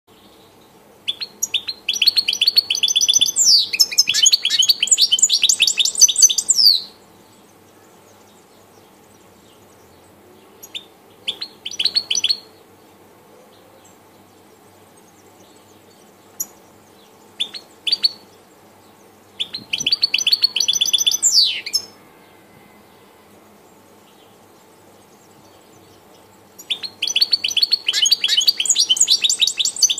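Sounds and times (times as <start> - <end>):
finch singing twittering trills: 0.2 - 12.9, 13.6 - 29.9.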